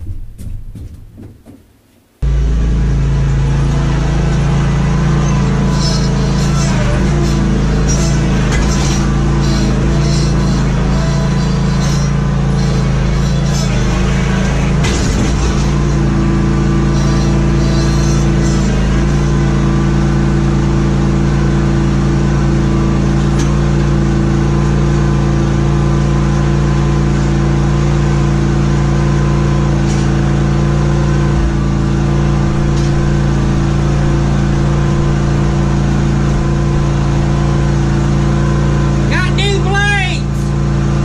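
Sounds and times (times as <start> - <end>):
lawn mower engine running: 2.2 - 41.0.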